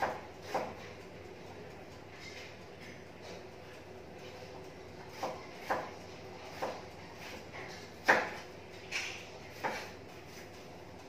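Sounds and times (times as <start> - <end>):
electric oven humming: 0.0 - 11.0.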